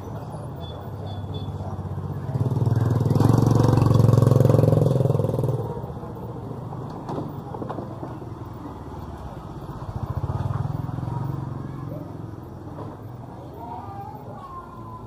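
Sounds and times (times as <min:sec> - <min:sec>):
motorcycle passing by: 0:00.0 - 0:13.7.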